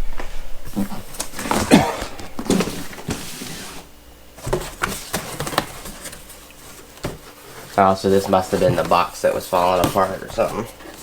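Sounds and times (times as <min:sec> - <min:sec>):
cardboard boxes being handled: 0:00.6 - 0:11.0.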